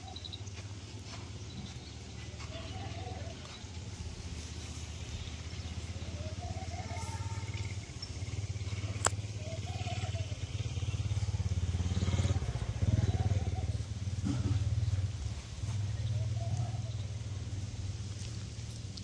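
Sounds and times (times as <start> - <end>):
low motor rumble: 0.0 - 19.0.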